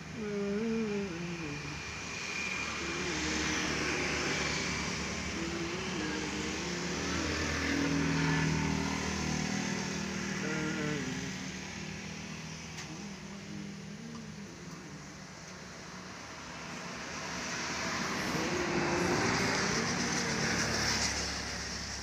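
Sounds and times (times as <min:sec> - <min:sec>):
motor vehicle passing by: 0:01.4 - 0:22.0.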